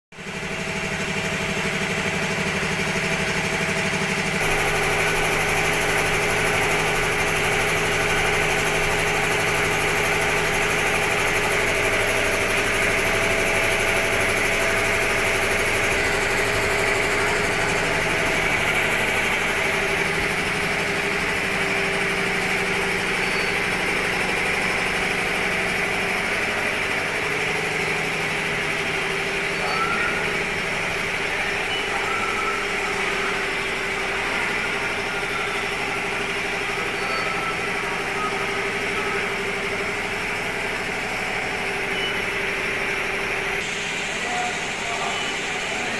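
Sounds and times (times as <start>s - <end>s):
machine humming: 0.2s - 45.9s.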